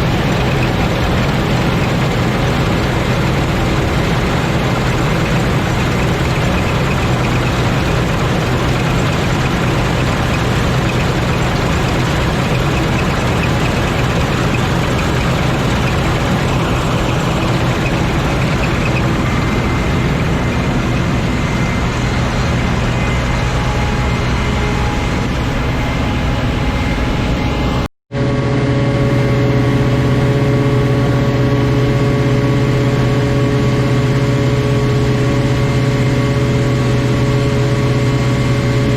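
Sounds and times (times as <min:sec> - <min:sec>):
combine harvester drone: 0:00.0 - 0:38.9
engine hum: 0:00.0 - 0:38.9.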